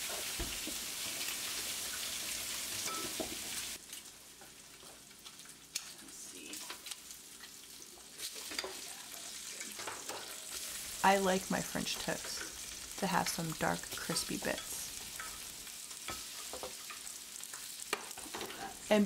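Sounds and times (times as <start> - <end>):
bread sizzling on griddle: 0.0 - 19.0
crackles: 3.5 - 19.0.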